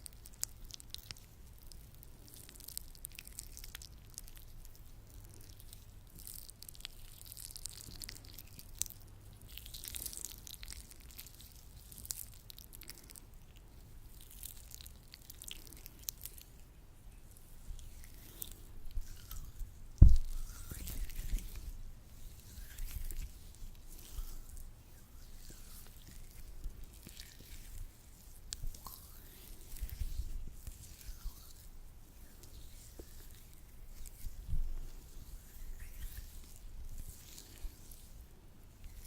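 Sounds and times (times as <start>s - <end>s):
gloved hands squishing lotion: 0.1s - 39.0s.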